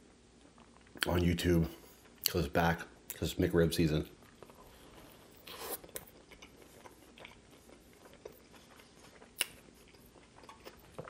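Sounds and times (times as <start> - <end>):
soft chewing: 0.0 - 3.3, 3.9 - 11.0.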